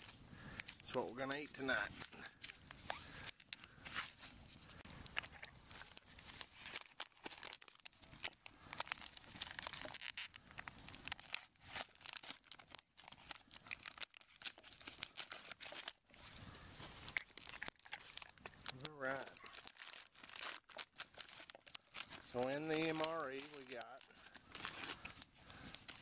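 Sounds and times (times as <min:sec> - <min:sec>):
plastic packaging crinkling and tearing: 0:00.0 - 0:26.0.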